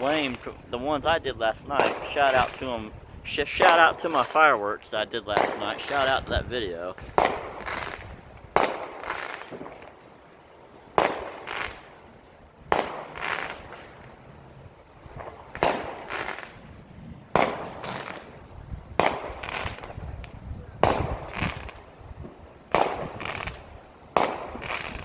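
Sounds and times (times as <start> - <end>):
fireworks exploding: 0.0 - 14.2, 15.0 - 25.0.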